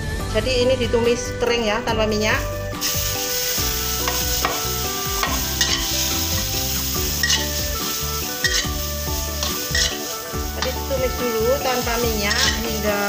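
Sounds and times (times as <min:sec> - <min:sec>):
metal spatula scraping a wok: 0:02.4 - 0:13.0.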